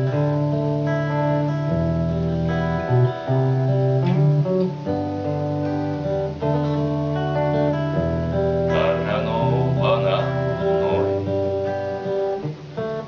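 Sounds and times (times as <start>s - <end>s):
guitar playing chords: 0.0s - 13.0s.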